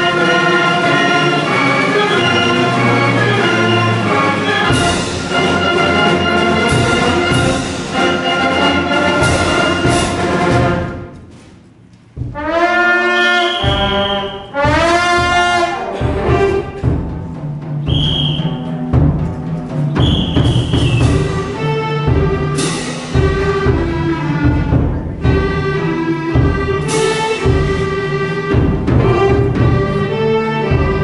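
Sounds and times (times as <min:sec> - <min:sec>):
brass chords bending upward: 0:00.0 - 0:11.2, 0:12.2 - 0:31.0
concert band playing: 0:00.0 - 0:11.5, 0:12.2 - 0:31.0.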